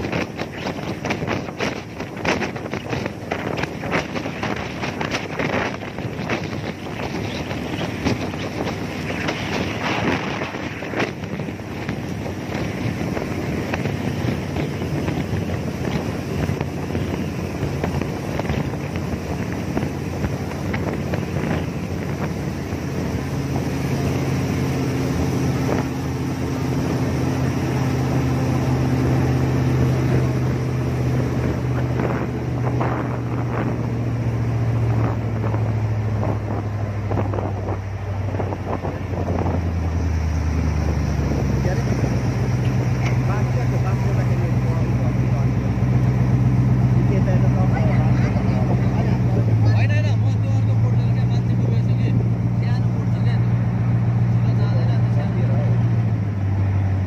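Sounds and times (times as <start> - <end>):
jet boat engine droning: 0.0 - 57.0
wind noise on microphone: 0.0 - 57.0.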